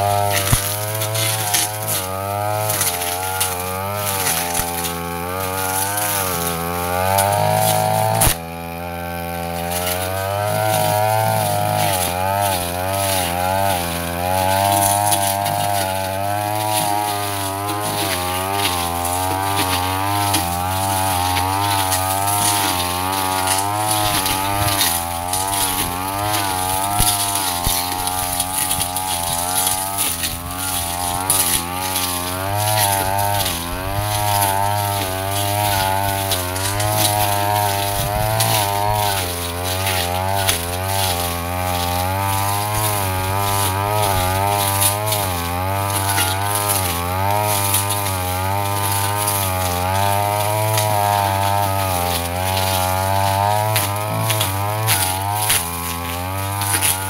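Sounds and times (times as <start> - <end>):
blade cutting through brush: 0.0 - 57.0
brush cutter engine running hard: 0.0 - 57.0.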